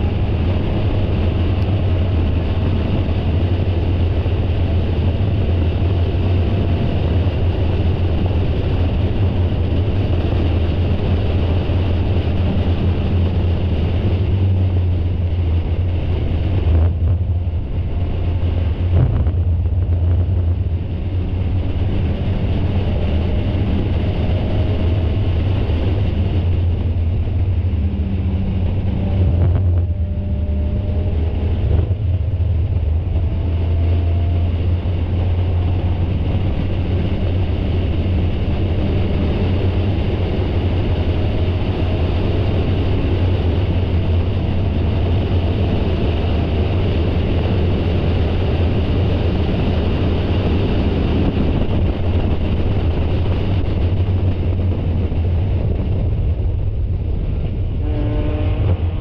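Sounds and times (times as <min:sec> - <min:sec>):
wind noise: 0:00.0 - 0:59.0.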